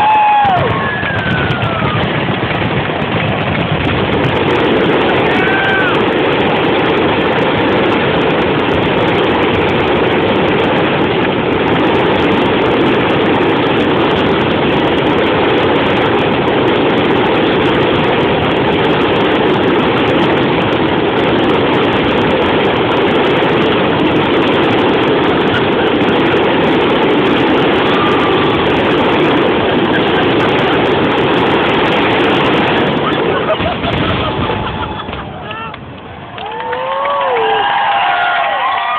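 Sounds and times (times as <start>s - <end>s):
fireworks barrage: 0.0s - 38.9s.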